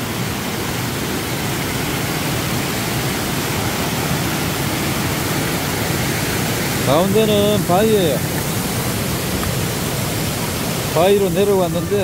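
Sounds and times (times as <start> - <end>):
water rushing over small dam: 0.0 - 12.0.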